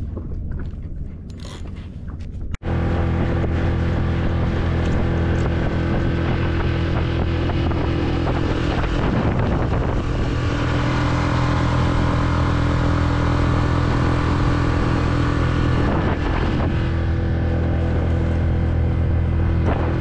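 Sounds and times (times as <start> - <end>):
outboard motor running: 0.0 - 20.0
wind on microphone: 0.0 - 20.0.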